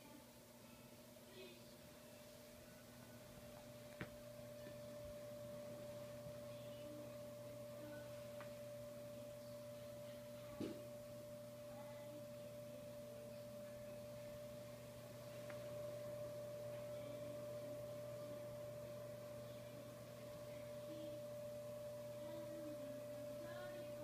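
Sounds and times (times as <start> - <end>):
electric fan heater humming: 0.0 - 24.0.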